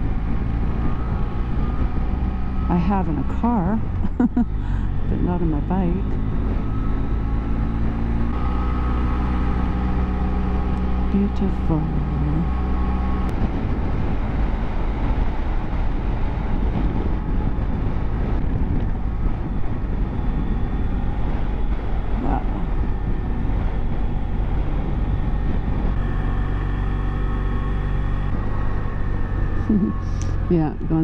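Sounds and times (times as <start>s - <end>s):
motorcycle engine running: 0.0s - 31.0s
wind noise on microphone: 0.0s - 31.0s.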